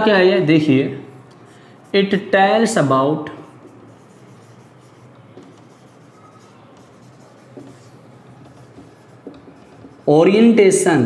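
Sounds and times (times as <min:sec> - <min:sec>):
marker pen writing on whiteboard: 0:00.0 - 0:10.9.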